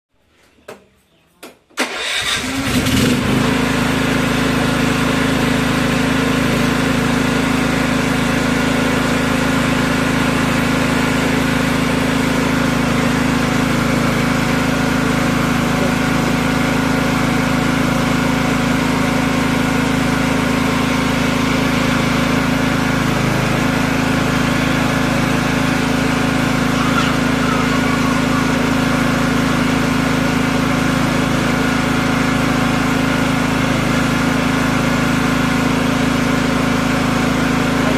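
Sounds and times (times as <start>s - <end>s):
petrol generator running: 1.8s - 37.9s.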